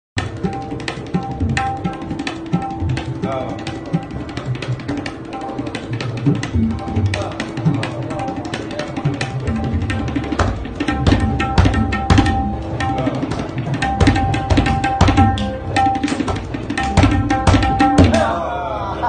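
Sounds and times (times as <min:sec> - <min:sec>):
tabla treble drum strokes: 0:00.2 - 0:18.4.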